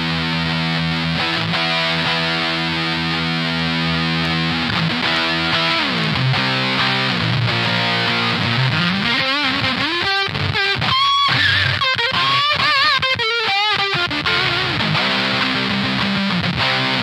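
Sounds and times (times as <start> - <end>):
fuzzy electric guitar: 0.0 - 17.0.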